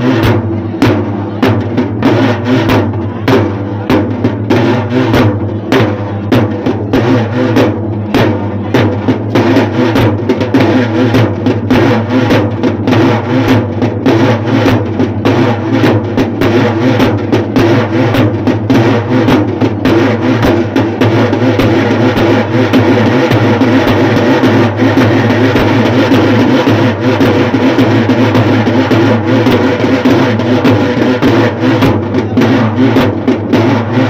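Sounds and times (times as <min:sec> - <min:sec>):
rhythmic drumming: 0:00.0 - 0:34.0.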